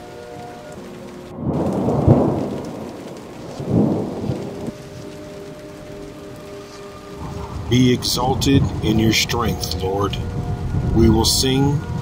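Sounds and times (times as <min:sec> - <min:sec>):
steady rain: 0:00.0 - 0:12.0
thunder rolling: 0:01.3 - 0:12.0.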